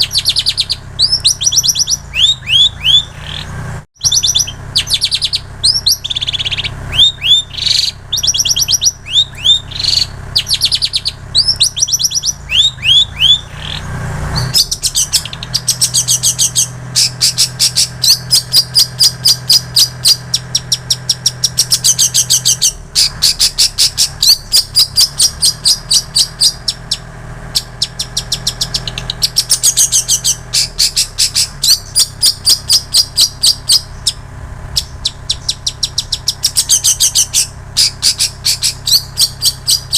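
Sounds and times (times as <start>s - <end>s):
bird singing mimicked song: 0.0s - 39.9s.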